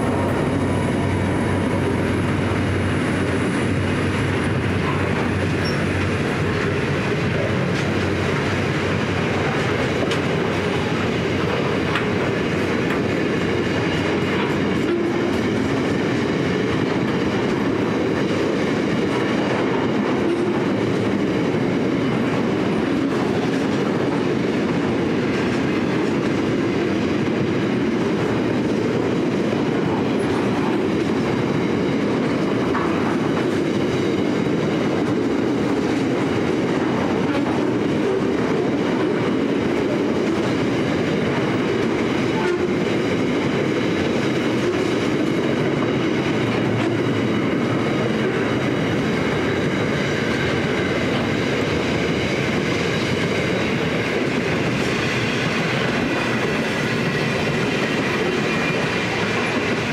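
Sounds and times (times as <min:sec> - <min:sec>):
freight wagons rolling on rails: 0:00.0 - 0:59.9.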